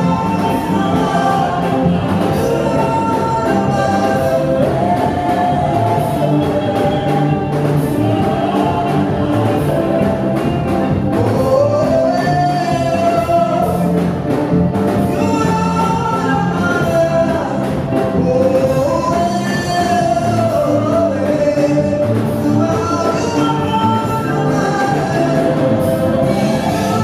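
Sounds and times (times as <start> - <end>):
backing vocalists singing: 0.0 - 27.0
band playing: 0.0 - 27.0
man singing lead: 0.0 - 27.0.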